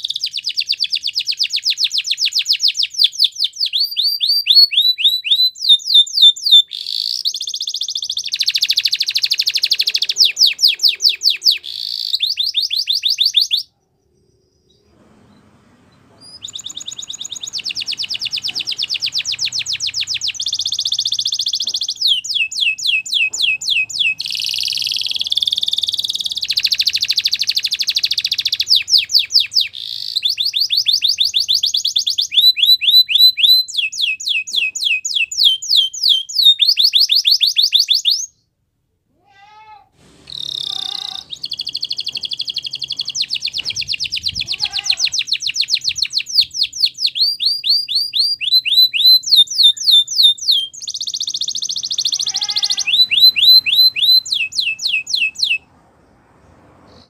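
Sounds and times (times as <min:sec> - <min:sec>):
canary singing trills: 0:00.0 - 0:38.4, 0:40.3 - 0:55.7.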